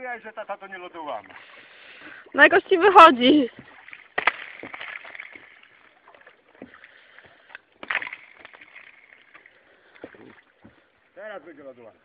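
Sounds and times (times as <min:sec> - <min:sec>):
water sloshing: 0:00.7 - 0:11.2.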